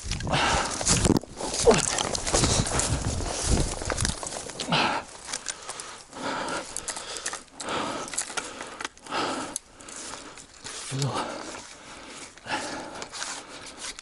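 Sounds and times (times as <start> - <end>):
person breathing hard: 0.2 - 14.0.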